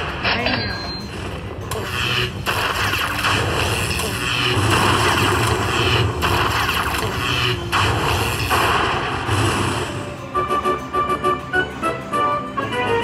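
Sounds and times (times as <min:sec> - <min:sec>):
slot machine zapping effects: 0:00.0 - 0:13.0.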